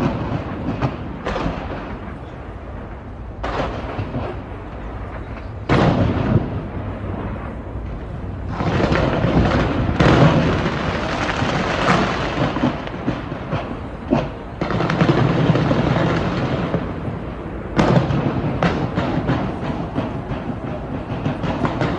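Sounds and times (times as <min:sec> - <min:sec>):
continuous rumble: 0:00.0 - 0:21.9
fireworks bangs and crackling: 0:00.0 - 0:21.9.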